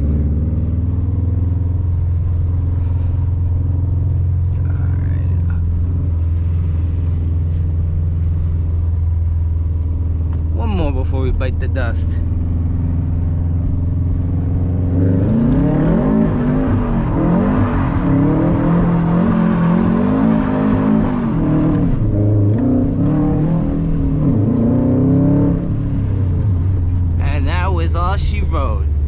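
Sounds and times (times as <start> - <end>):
car engine revving and idling: 0.0 - 29.0.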